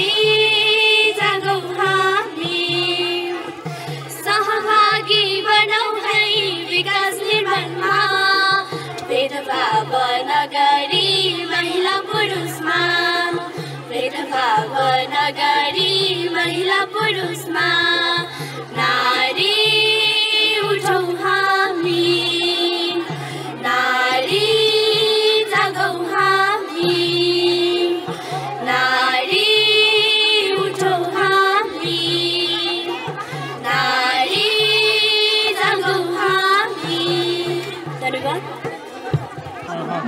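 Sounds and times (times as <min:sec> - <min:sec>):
girls singing into microphones: 0:00.0 - 0:40.0.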